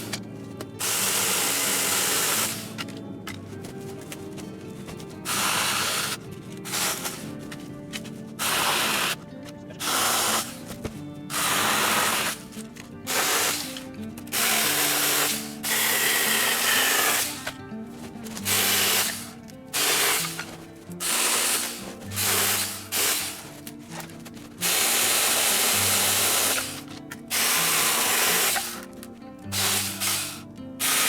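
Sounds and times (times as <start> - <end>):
background music: 0.0 - 31.0
battery chainsaw cutting branches: 0.8 - 2.8, 5.2 - 7.4, 8.4 - 9.2, 9.8 - 10.7, 11.3 - 17.6, 18.2 - 31.0.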